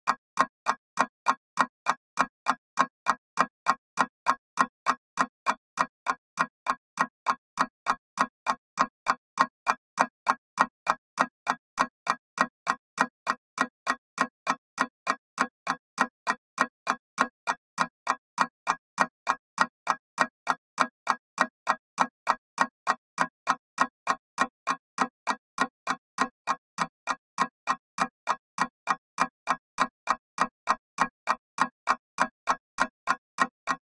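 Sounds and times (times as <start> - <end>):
mechanical clock ticking: 0.1 - 33.9.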